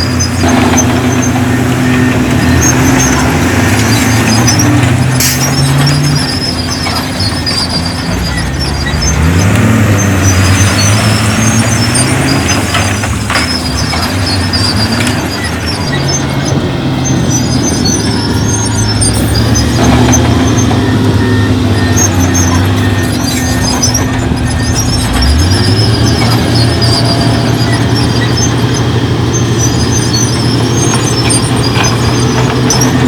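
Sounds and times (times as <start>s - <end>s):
diesel machinery under load: 0.0s - 33.0s.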